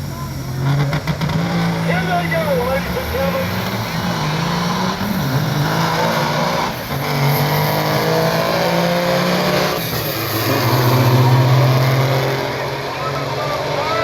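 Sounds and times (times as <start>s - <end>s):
diesel truck engines accelerating: 0.0s - 14.0s.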